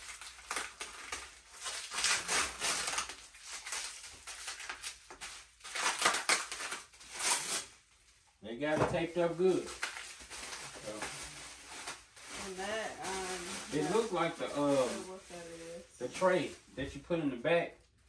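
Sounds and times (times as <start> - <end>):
packing material scratching: 0.0 - 7.9, 9.2 - 16.6.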